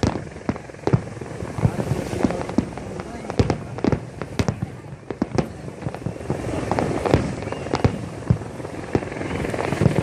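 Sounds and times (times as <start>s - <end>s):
fireworks bursting: 0.0s - 10.0s
steady rumble: 0.0s - 10.0s.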